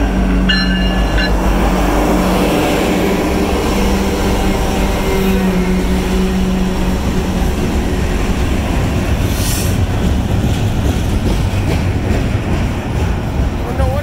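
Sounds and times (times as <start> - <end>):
rumble of wheels on rail: 0.0 - 14.0.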